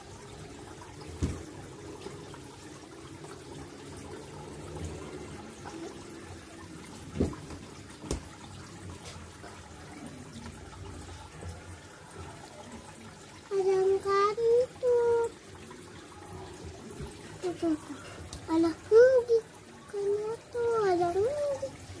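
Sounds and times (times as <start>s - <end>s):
water trickling in fish tank: 0.0s - 22.0s.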